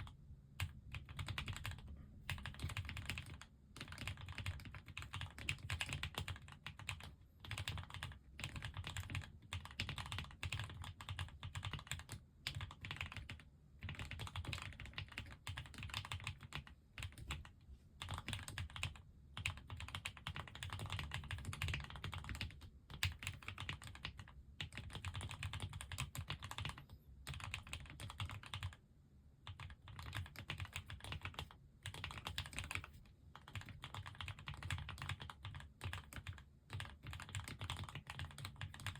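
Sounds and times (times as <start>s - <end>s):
mechanical keyboard typing: 0.0s - 28.8s, 29.4s - 38.9s.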